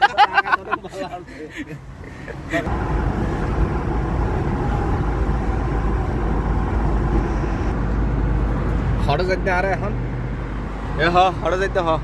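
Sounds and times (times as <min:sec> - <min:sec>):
engine and tyre rumble: 0:01.0 - 0:12.0.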